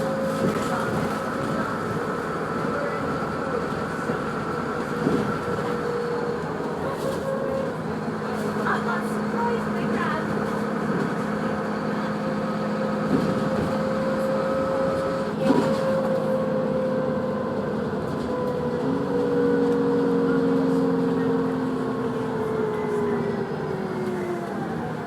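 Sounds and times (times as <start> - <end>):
vehicle hum and whine: 0.0 - 25.0.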